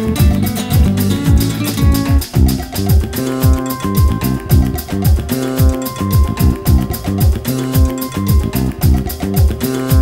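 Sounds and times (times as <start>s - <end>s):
music with steady beat: 0.0s - 10.0s
deep kick drum: 0.2s - 10.0s.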